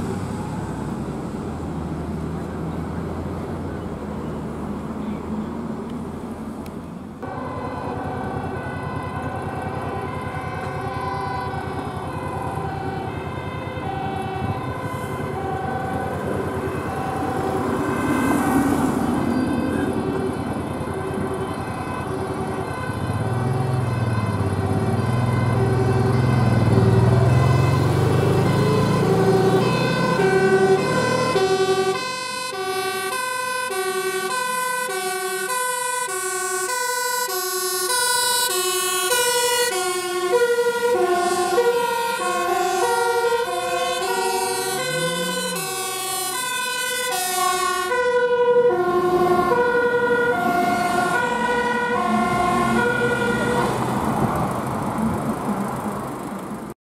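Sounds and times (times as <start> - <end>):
fire engine two-tone siren: 0.0 - 1.5, 7.2 - 55.5
heavy truck engine rumble: 0.0 - 56.8.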